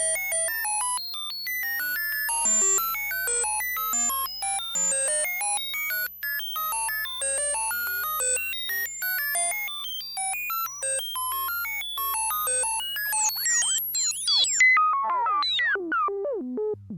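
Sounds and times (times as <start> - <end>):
electronic beeps at random pitches: 1.2 - 16.9.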